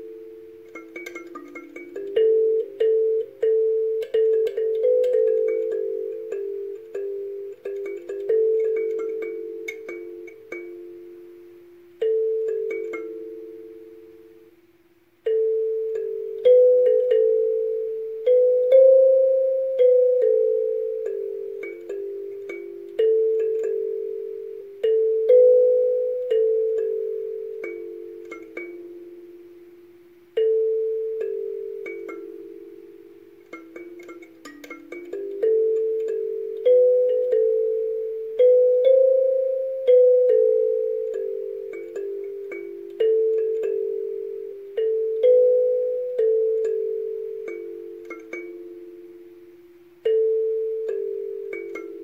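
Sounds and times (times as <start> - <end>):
kalimba melody: 0.0 - 52.0.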